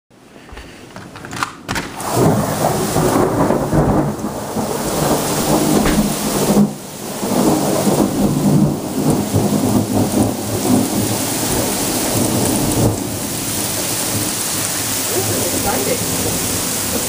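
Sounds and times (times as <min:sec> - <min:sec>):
heavy rain pouring: 0:00.2 - 0:17.0.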